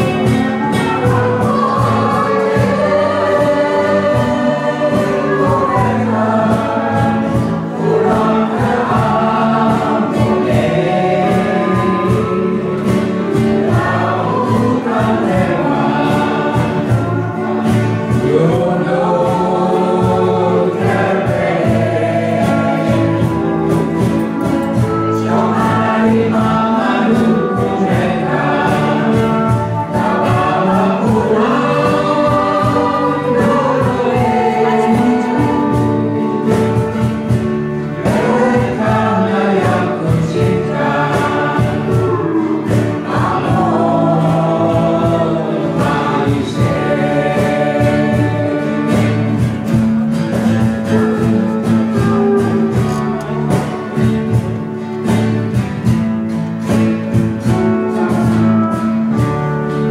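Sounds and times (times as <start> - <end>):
bass guitar: 0.0 - 59.9
choir singing: 0.0 - 59.9
guitars: 0.0 - 59.9
percussion keeping a steady beat: 0.0 - 59.9.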